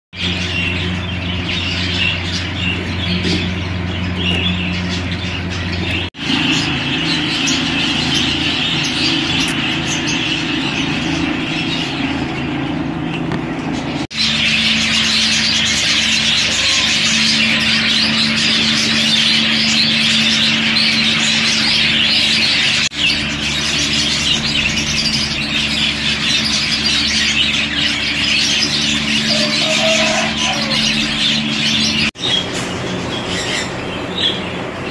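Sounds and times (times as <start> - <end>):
budgerigars chattering and squawking: 0.2 - 34.9
steady low hum: 0.2 - 34.9.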